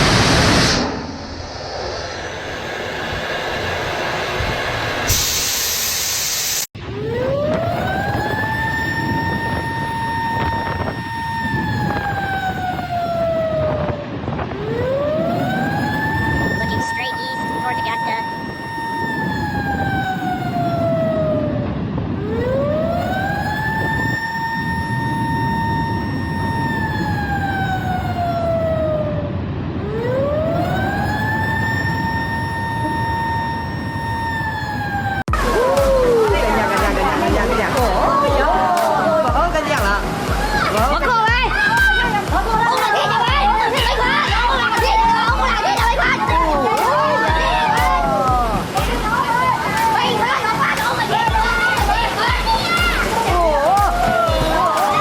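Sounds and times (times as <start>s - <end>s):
steady low rumbling: 0.0s - 5.4s, 6.8s - 55.0s
siren winding up and down: 0.0s - 55.0s.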